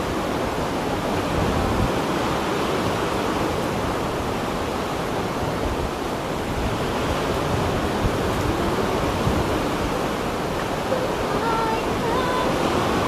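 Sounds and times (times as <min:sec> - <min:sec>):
choppy sea waves: 0:00.0 - 0:13.0
wind buffeting microphone: 0:00.0 - 0:13.0.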